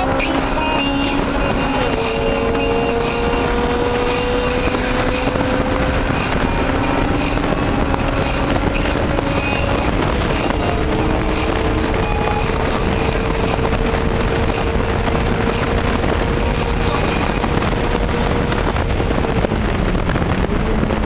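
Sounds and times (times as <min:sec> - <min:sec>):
car engine running hard: 0:00.0 - 0:21.0
road and wind noise: 0:00.0 - 0:21.0.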